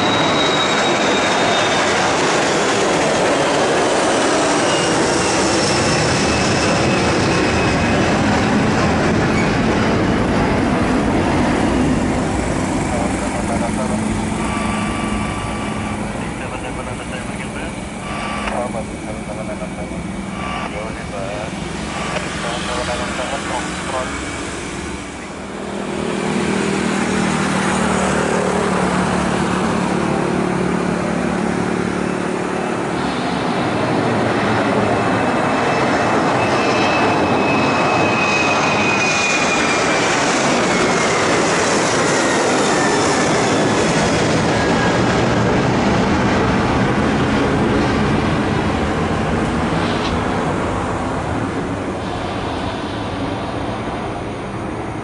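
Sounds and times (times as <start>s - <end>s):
jet engines roaring past: 0.0s - 55.0s.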